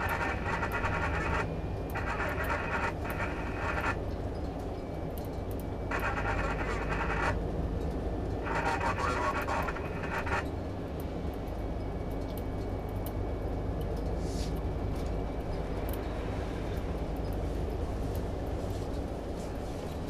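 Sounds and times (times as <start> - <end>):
engine and road rumble: 0.0 - 20.0.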